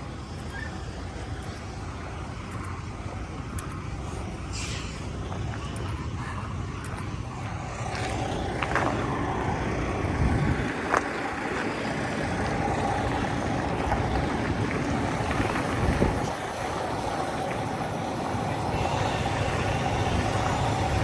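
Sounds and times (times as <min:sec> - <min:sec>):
diesel truck engine running: 0:00.0 - 0:21.0
wind rumbling on microphone: 0:00.0 - 0:21.0.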